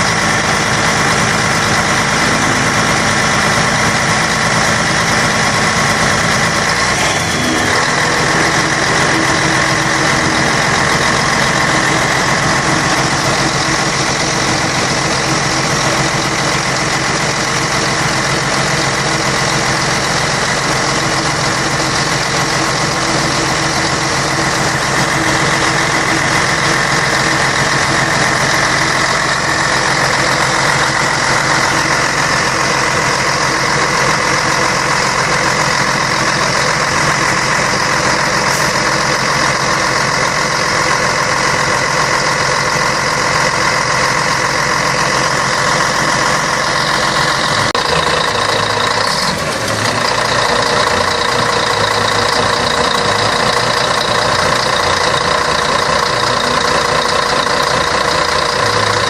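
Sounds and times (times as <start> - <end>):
diesel bus engine idling: 0.0 - 59.0.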